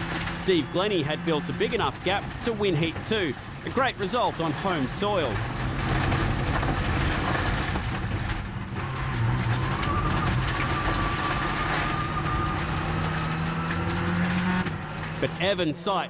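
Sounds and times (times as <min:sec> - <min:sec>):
rally car engine running hard: 0:00.0 - 0:15.9
gravel road noise: 0:00.0 - 0:16.0.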